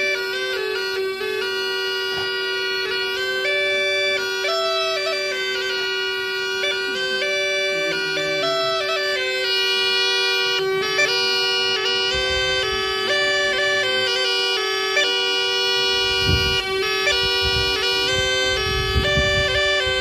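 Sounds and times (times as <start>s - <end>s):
bagpipe melody over drone: 0.0s - 20.0s.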